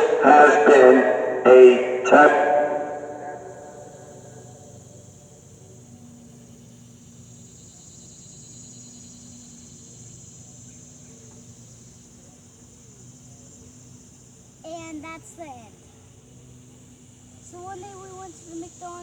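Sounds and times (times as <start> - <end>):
faint low hum: 0.0 - 19.0
insects trilling: 0.0 - 19.0.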